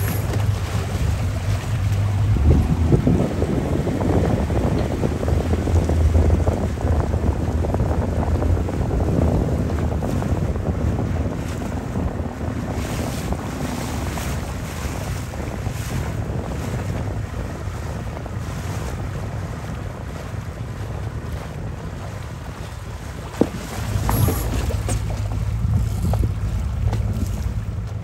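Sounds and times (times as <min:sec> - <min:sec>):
water rushing and splashing: 0:00.0 - 0:28.0
wind buffeting microphone: 0:00.0 - 0:28.0.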